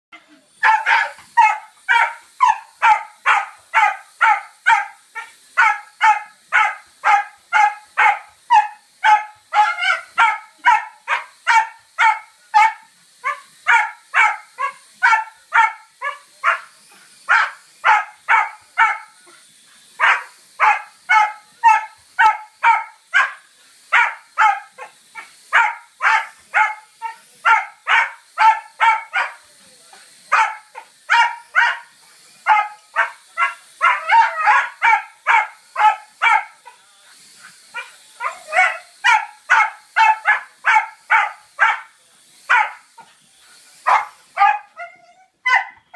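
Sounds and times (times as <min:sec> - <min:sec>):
dog barking: 0:00.6 - 0:05.0, 0:05.6 - 0:16.7, 0:17.3 - 0:19.1, 0:20.0 - 0:24.9, 0:25.5 - 0:29.4, 0:30.3 - 0:36.8, 0:37.8 - 0:41.9, 0:42.5 - 0:42.9, 0:43.9 - 0:45.8.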